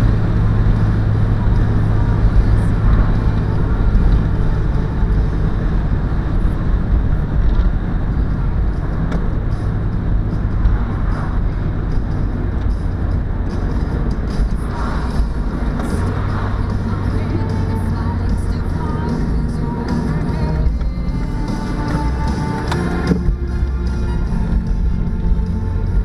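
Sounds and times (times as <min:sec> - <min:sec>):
car engine droning: 0:00.0 - 0:26.0
road and wind noise: 0:00.0 - 0:26.0.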